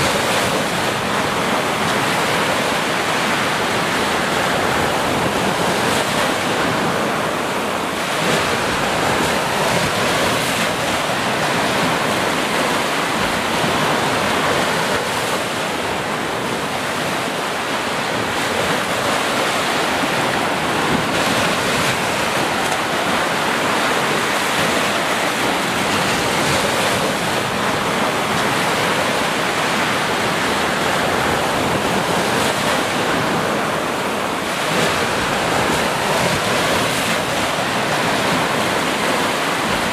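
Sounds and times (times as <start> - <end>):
ocean waves washing up beach: 0.0 - 39.9.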